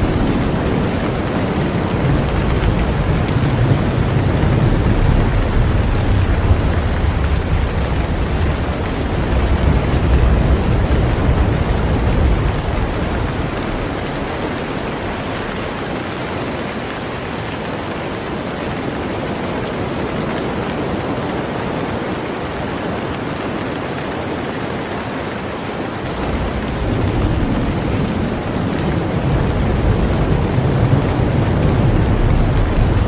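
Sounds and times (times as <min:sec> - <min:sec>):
heavy rain on a boat: 0:00.0 - 0:33.0.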